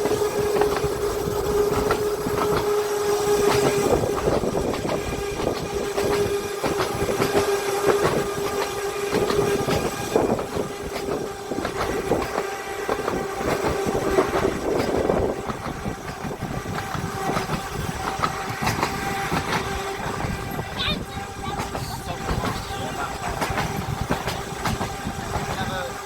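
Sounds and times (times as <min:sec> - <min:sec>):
tram motor whine: 0:00.0 - 0:26.0
tram wheels clattering on rails: 0:00.0 - 0:26.0.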